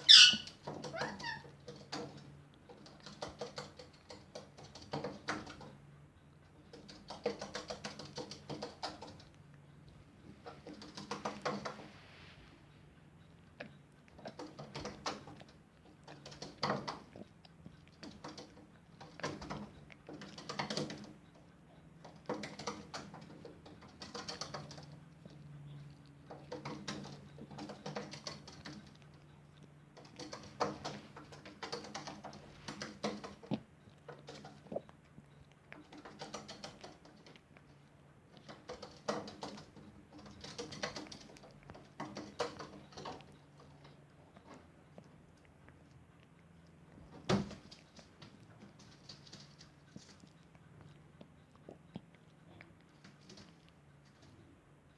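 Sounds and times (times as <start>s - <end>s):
faint low hum: 0.0s - 54.9s
dog licking with wet lapping: 2.3s - 54.9s.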